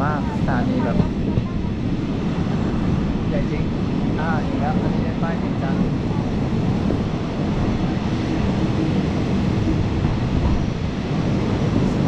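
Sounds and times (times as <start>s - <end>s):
train wheels rumbling on rails: 0.0s - 12.0s
wind on microphone: 0.0s - 12.0s.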